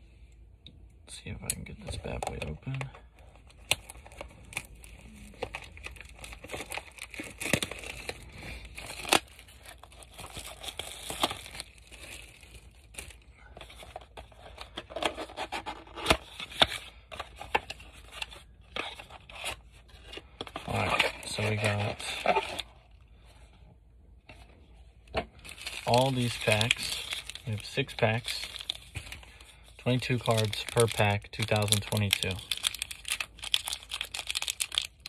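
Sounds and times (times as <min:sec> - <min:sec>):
packaging crinkling: 0:03.5 - 0:22.7, 0:25.4 - 0:35.0.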